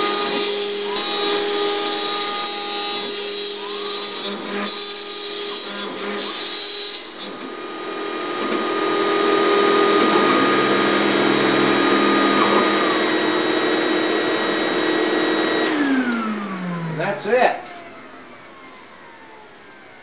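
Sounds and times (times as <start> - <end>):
motor spinning down: 0.0 - 17.0
router spindle running: 0.0 - 17.0
dust collection vacuum: 0.0 - 19.4.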